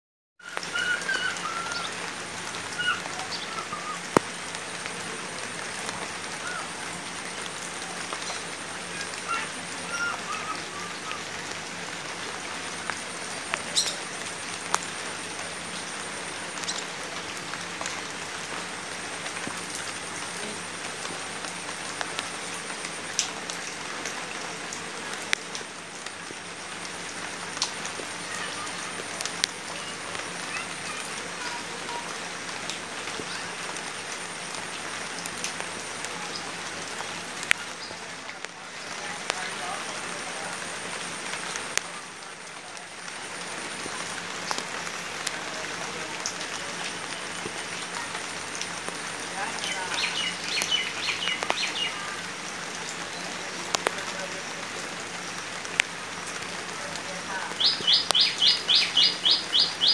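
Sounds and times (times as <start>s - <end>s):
light rain hissing on water: 0.4s - 59.9s
sharp drips on leaves: 0.4s - 59.9s.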